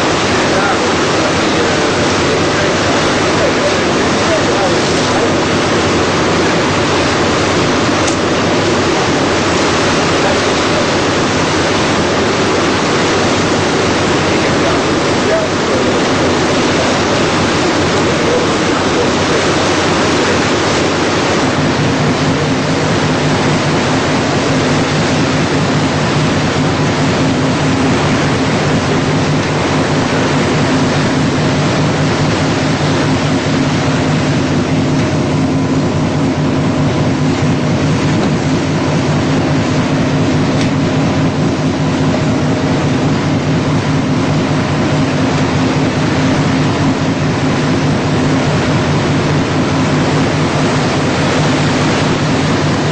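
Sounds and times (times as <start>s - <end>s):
sea water rushing past boat: 0.0s - 52.9s
ship engine drone: 0.0s - 52.9s.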